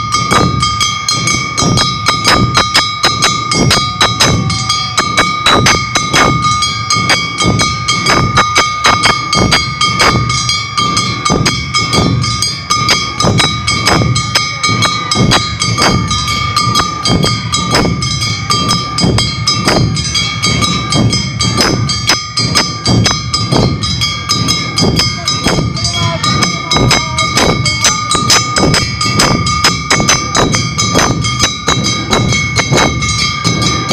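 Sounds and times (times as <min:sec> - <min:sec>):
drums and percussion beating: 0:00.0 - 0:33.9
held high note: 0:00.0 - 0:33.9.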